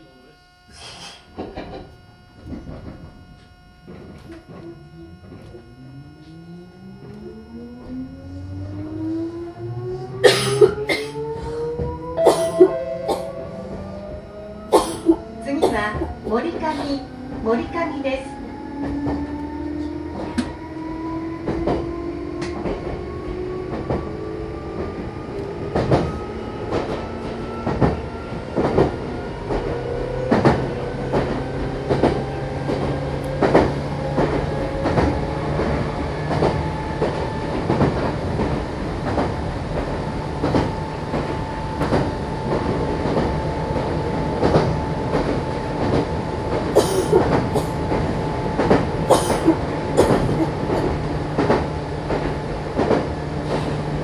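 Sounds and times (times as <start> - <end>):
electric train motor whine: 0.0 - 54.0.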